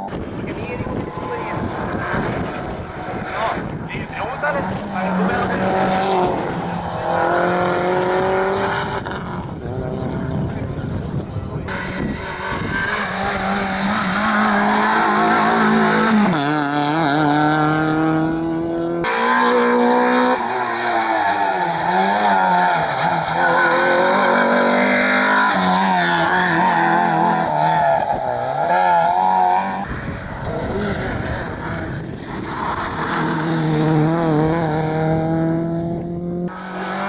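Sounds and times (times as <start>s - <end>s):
rally car engines accelerating: 0.0s - 37.0s.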